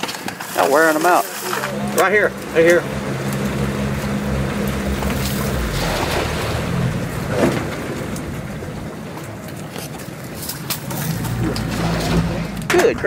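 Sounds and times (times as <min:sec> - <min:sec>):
wash of noise: 0:00.0 - 0:12.5
outboard motor humming: 0:00.0 - 0:13.0.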